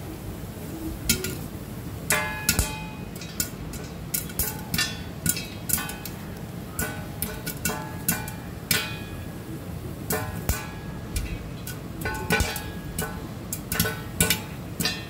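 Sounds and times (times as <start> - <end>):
popcorn popping: 1.0 - 15.0
kernels ringing on metal plate: 2.1 - 9.4, 10.1 - 15.0.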